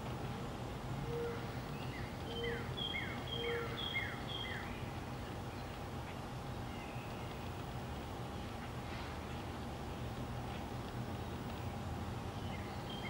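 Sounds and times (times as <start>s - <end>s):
faint hum: 0.0s - 13.0s
low background noise: 0.0s - 13.0s
songbird singing: 0.0s - 13.0s.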